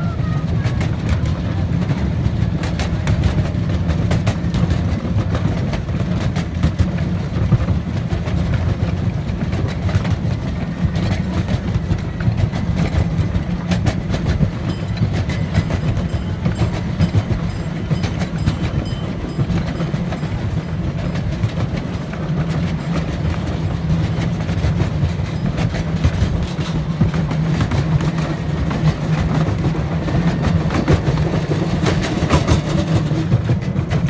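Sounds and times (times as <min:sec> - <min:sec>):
miniature train rumbling: 0:00.0 - 0:34.0
wheels clicking on rails: 0:00.0 - 0:34.0.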